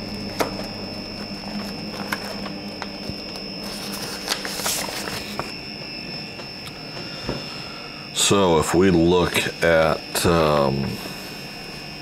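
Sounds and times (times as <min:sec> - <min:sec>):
high steady whine: 0:00.0 - 0:12.0
low hum: 0:00.0 - 0:12.0.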